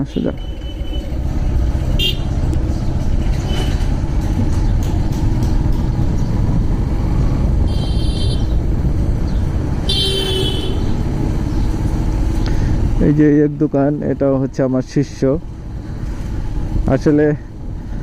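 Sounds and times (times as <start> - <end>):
motorcycle engine rumble: 0.0 - 14.5
wind and road noise: 0.0 - 18.0.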